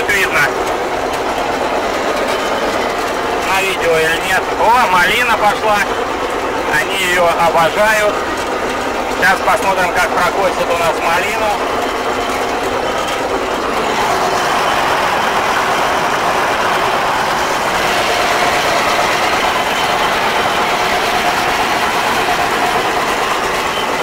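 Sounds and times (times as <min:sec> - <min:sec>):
mower machine noise: 0:00.0 - 0:24.0.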